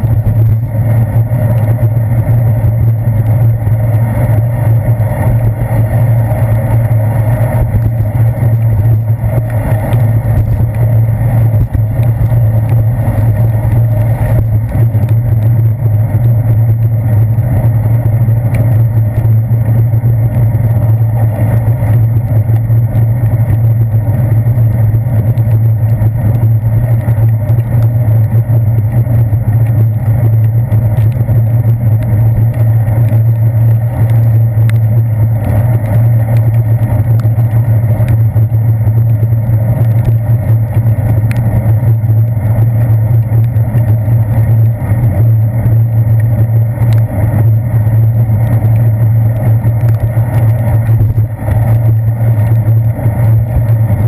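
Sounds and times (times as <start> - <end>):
bicycle riding on wet pavement: 0.0 - 54.0
wind: 0.0 - 54.0.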